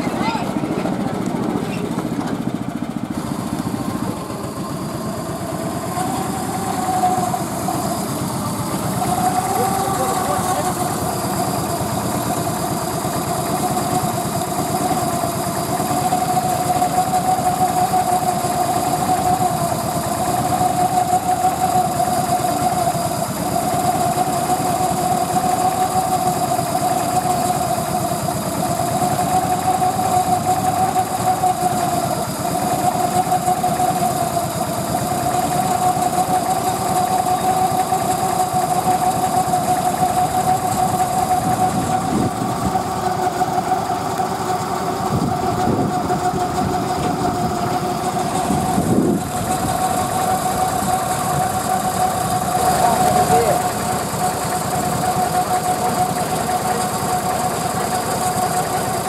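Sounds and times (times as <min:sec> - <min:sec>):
diesel train engine idling: 0:00.0 - 0:59.0.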